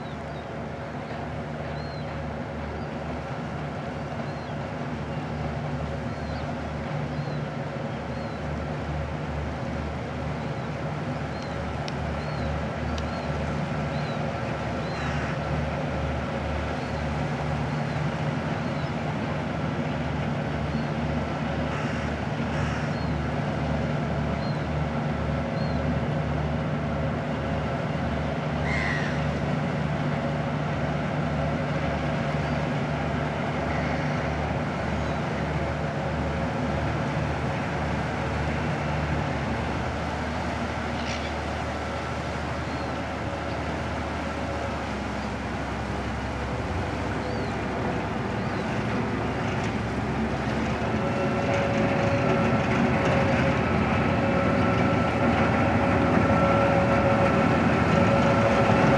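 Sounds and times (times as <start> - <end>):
boat diesel engine throbbing: 0.0 - 58.9.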